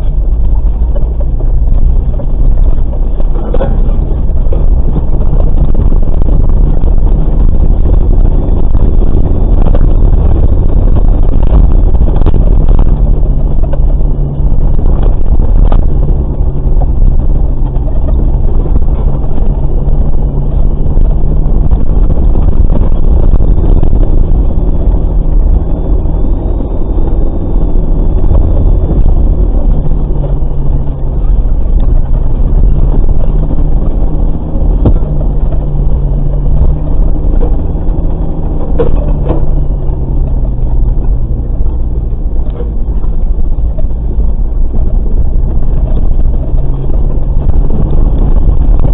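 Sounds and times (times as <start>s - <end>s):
knocks and rattles over bumps: 0.0s - 48.9s
vehicle engine at low revs: 0.0s - 48.9s.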